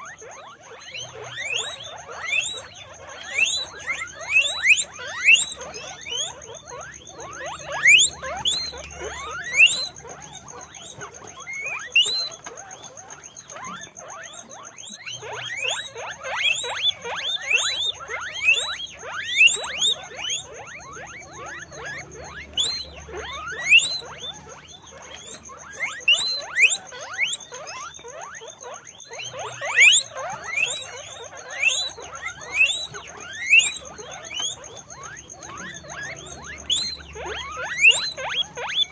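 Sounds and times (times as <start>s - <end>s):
guinea pigs squeaking: 0.0s - 38.9s.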